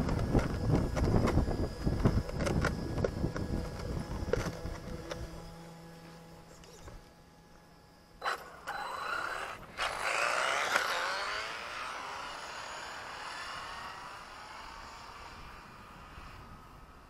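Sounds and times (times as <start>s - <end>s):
electric motor whine accelerating: 0.0s - 17.0s.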